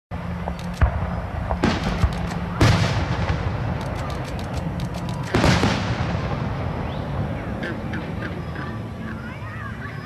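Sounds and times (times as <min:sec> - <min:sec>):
fireworks booming: 0:00.2 - 0:08.6
fireworks crackling: 0:00.2 - 0:08.6.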